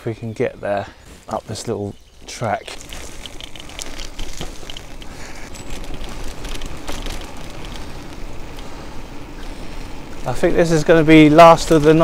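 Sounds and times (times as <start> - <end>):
bicycle tyres rolling on gravel: 0.0 - 12.0.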